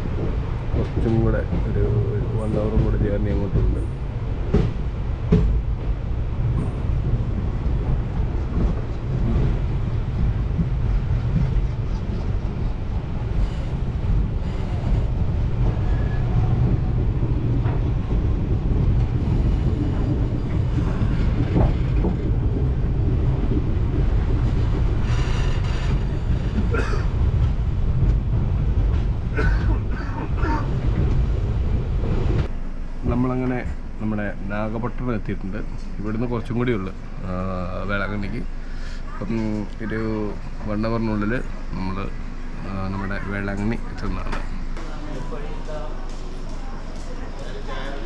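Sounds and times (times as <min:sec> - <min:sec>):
train rumble of wheels and wind: 0:00.0 - 0:48.0.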